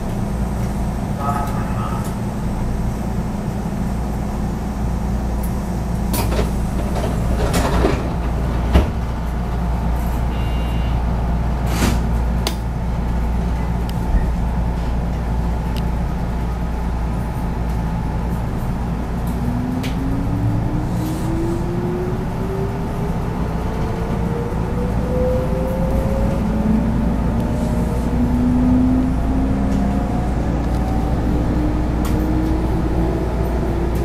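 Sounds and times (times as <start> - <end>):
train interior rumble: 0.0 - 34.0.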